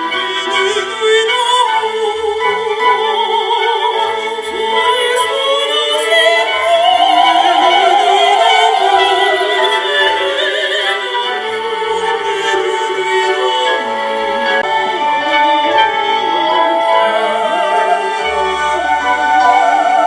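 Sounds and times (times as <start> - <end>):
operatic orchestral music: 0.0 - 20.0.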